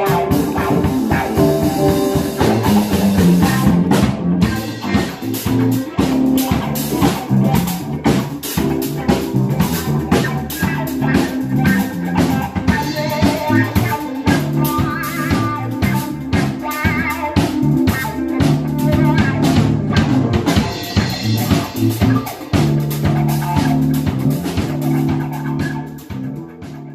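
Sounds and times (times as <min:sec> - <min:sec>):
bass line: 0:00.0 - 0:26.9
drum beat: 0:00.0 - 0:26.9
guitar figures: 0:00.0 - 0:26.9.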